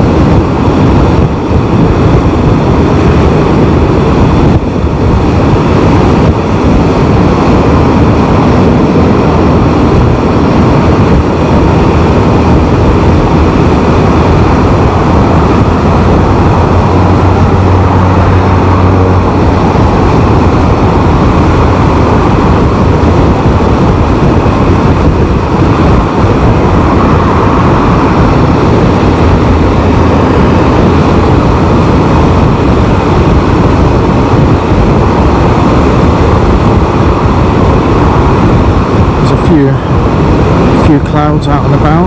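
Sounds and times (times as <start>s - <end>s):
engine low hum: 0.0s - 42.0s
road noise: 0.0s - 42.0s
wind rush on microphone: 0.0s - 42.0s.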